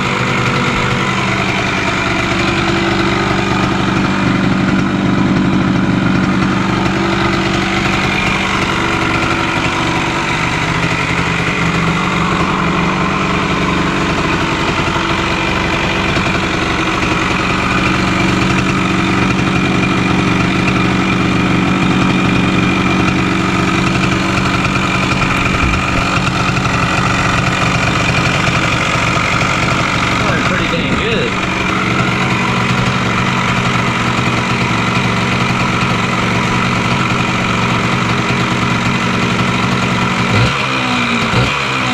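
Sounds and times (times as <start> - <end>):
two-stroke engine idling: 0.0 - 41.9.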